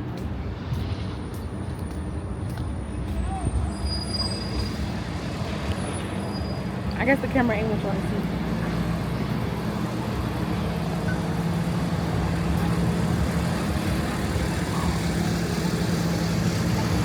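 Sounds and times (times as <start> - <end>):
road and traffic noise: 0.0 - 17.0
vehicle engine humming: 0.0 - 17.0.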